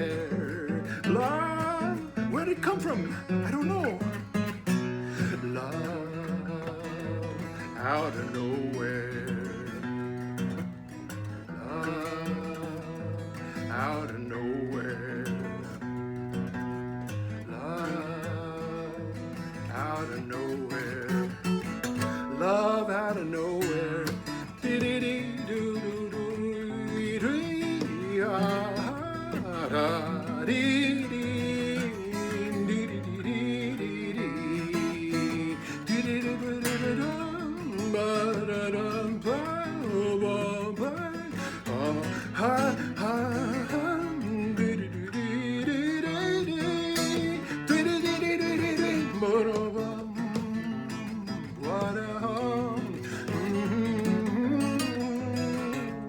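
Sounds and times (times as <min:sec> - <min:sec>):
acoustic guitar folk instrumental: 0:00.0 - 0:56.0.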